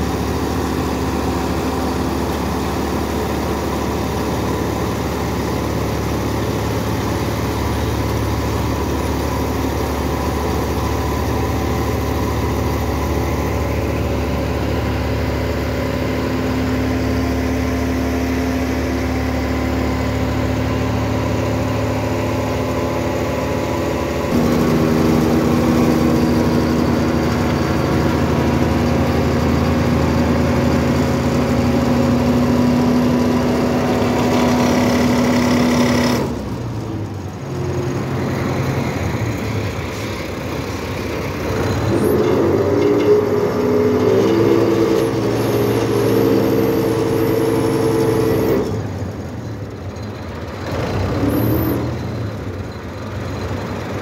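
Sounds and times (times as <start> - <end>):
tractor diesel engine: 0.0 - 54.0.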